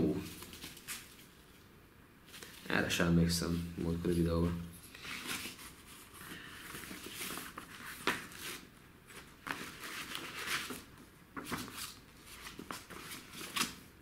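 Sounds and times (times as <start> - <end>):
paper pages rustling: 0.1 - 1.4, 3.5 - 13.9.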